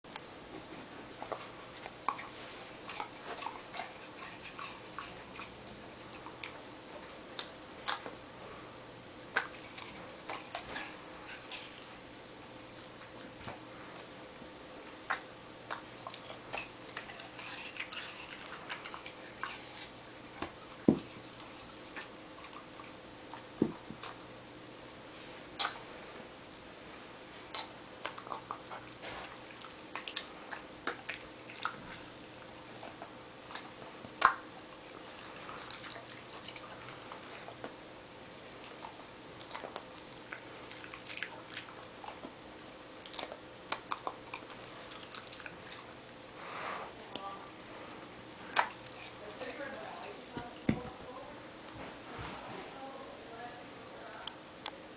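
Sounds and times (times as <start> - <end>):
pet chewing: 1.1 - 8.2, 9.2 - 14.2, 14.8 - 24.9, 27.3 - 46.2, 47.0 - 51.2.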